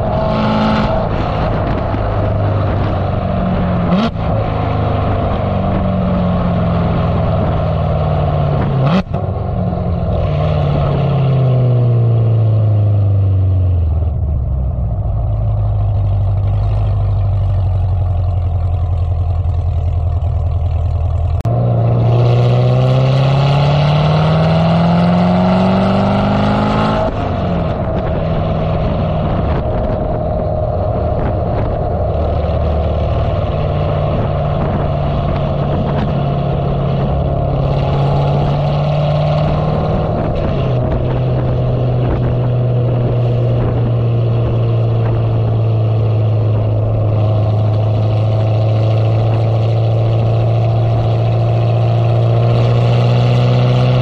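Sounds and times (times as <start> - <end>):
car exhaust engine revving: 0.0 - 54.0.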